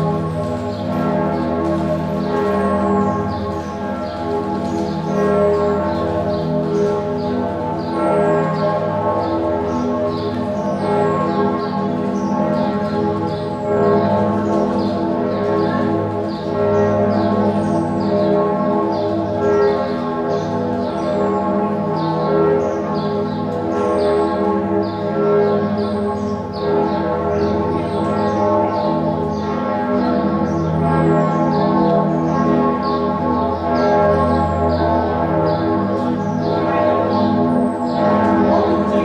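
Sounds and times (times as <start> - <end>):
church bells ringing in a peal: 0.0 - 39.0.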